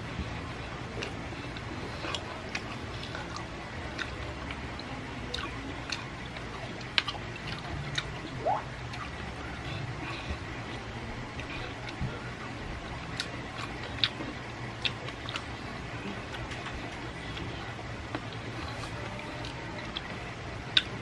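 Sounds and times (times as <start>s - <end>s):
chewing and wet mouth sounds: 0.2s - 21.0s.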